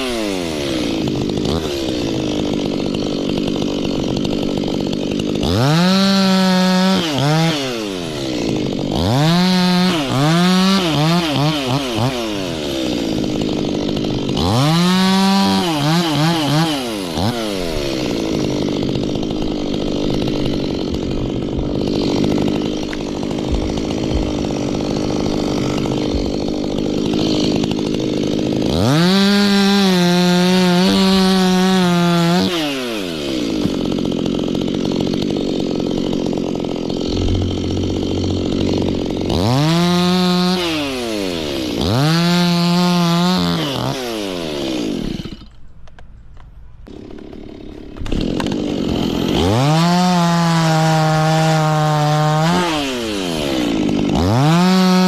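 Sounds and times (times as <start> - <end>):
chainsaw idling and revving: 0.0 - 46.0, 46.8 - 55.0.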